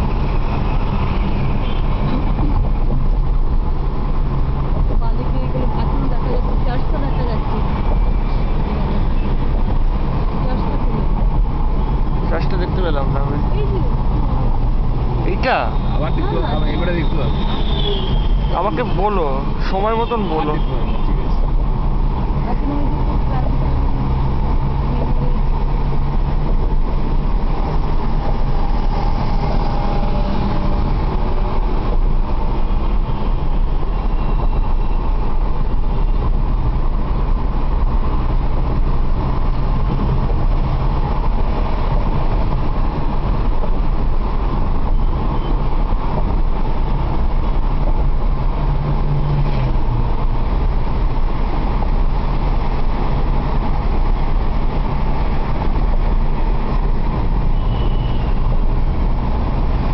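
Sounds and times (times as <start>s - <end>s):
car engine hum: 0.0s - 59.9s
tyre and road noise: 0.0s - 59.9s.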